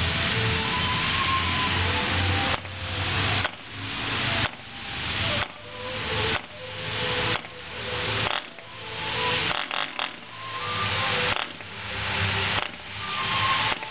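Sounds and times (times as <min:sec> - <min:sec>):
loud hiss: 0:00.0 - 0:13.9.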